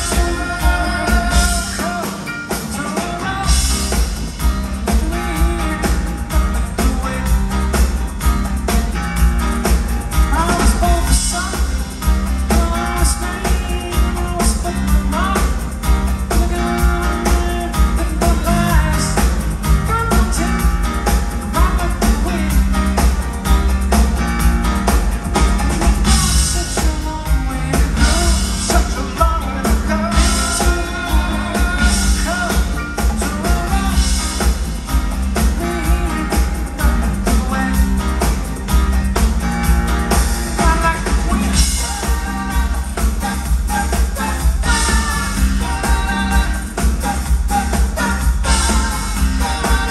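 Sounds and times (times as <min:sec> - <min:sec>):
person singing lead vocal: 0:00.0 - 0:08.0, 0:09.6 - 0:23.4, 0:25.8 - 0:39.3, 0:40.5 - 0:49.9
live rock band playing: 0:00.0 - 0:49.9.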